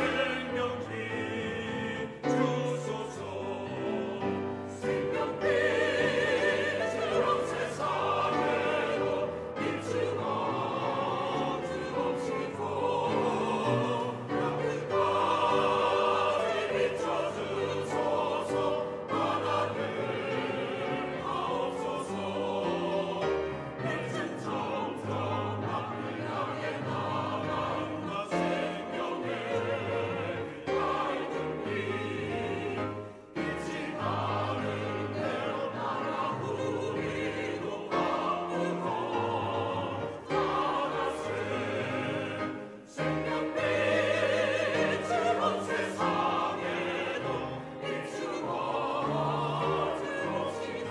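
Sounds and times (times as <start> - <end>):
mixed choir singing: 0.0 - 50.9.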